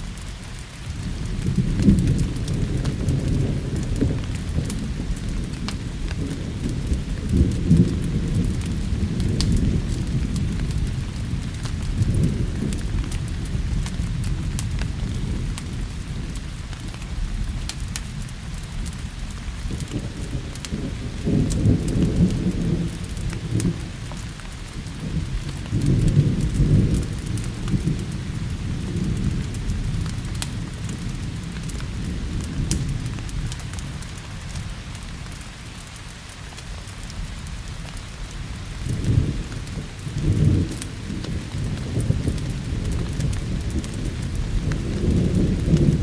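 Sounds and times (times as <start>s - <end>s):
thunder rumbling: 0.0s - 35.8s, 36.6s - 46.0s
steady rain: 0.0s - 46.0s.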